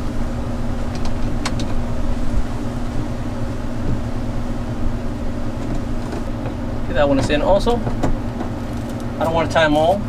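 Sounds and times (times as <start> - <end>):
mechanical hum with pitched tone: 0.0 - 10.0.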